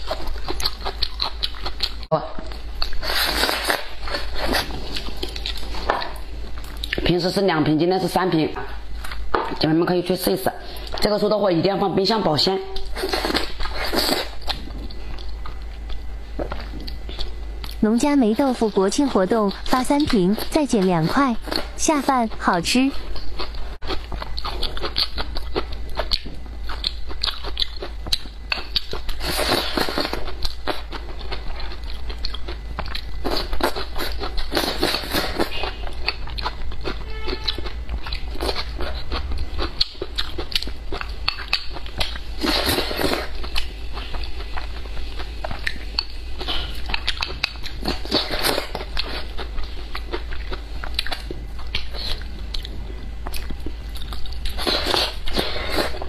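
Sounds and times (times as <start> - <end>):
person chewing food: 0.0 - 7.0, 12.8 - 17.8, 22.8 - 56.0.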